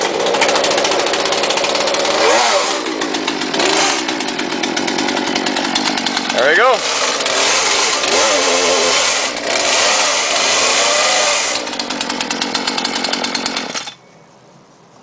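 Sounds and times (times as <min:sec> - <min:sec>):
chainsaw revving and idling: 0:00.0 - 0:14.0.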